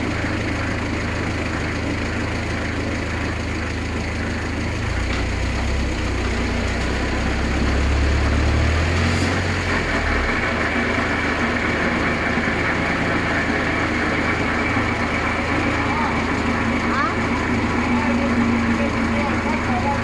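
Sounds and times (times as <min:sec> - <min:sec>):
vehicle rear-axle drone: 0:00.0 - 0:20.0.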